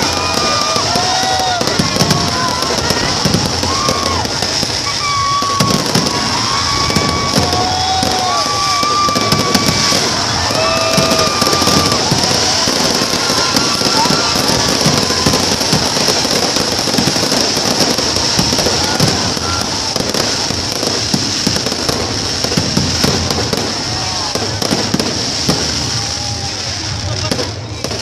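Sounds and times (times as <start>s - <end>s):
fireworks crackling and popping: 0.0s - 28.0s
fireworks hiss: 0.0s - 28.0s.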